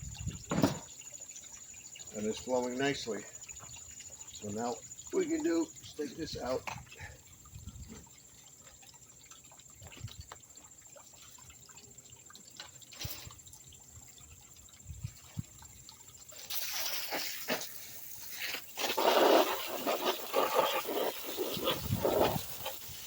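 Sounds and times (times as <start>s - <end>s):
water rushing through filter: 0.0s - 23.0s.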